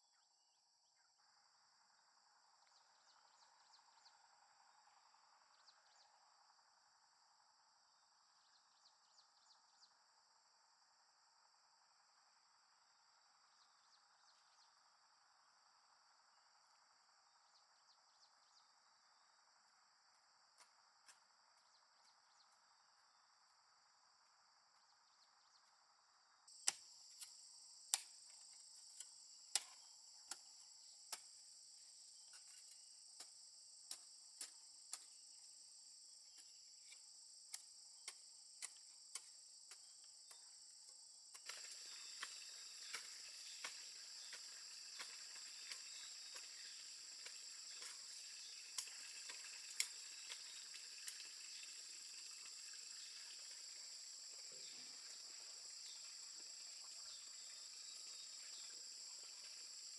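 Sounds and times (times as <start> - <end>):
insects chirring: 1.0 - 59.9.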